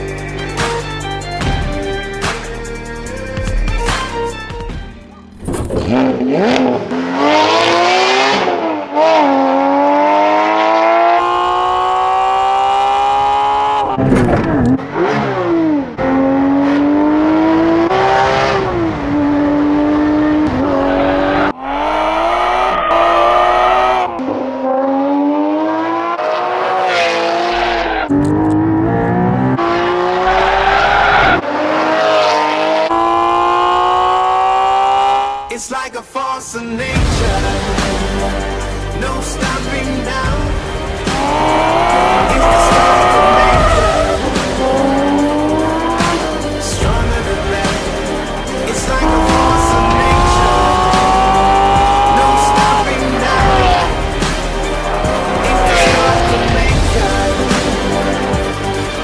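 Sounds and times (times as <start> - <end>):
sports car engine revving: 5.3 - 35.6, 37.4 - 59.0.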